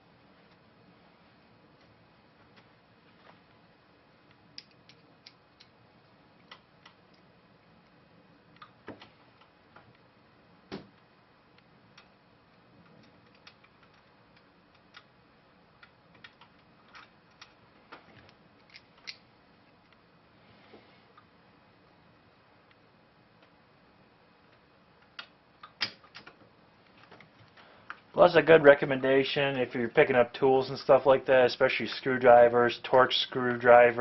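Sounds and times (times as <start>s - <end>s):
low hiss: 0.0s - 34.0s.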